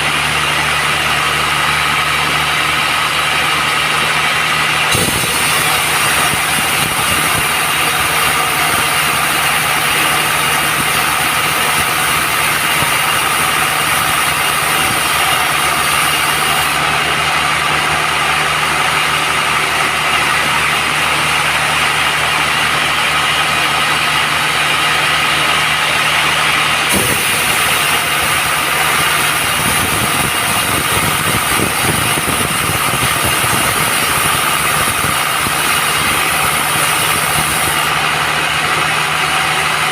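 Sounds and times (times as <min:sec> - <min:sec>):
band sawmill droning: 0:00.0 - 0:39.9.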